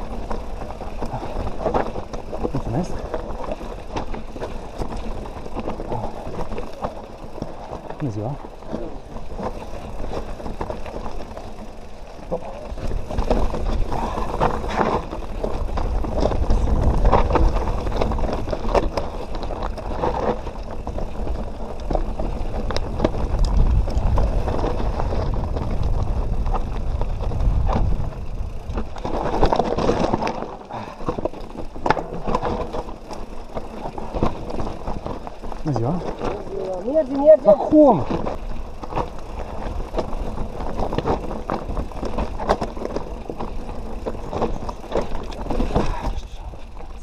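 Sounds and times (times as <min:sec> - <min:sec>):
bike clattering over rocks: 0:00.0 - 0:47.0.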